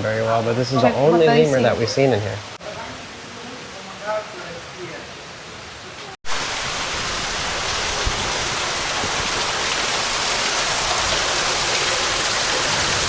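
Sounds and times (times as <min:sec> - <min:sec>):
rush of falling water: 0:00.0 - 0:13.0.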